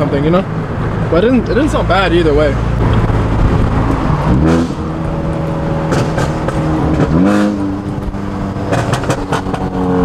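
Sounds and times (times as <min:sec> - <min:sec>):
car engine accelerating hard: 0:00.6 - 0:10.0.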